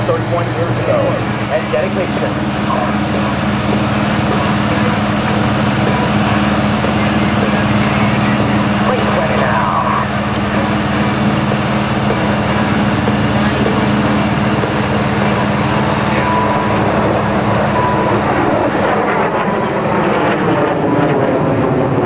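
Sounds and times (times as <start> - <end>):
jet engines roaring overhead: 0.0 - 22.0
steady low hum: 0.0 - 22.0.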